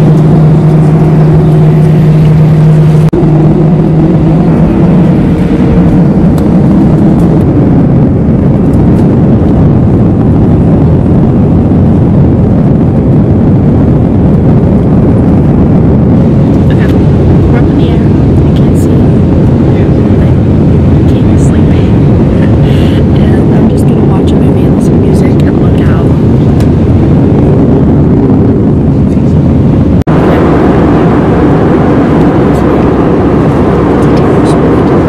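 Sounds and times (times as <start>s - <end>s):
jet engines roaring: 0.0s - 35.0s
low hum: 0.0s - 35.0s.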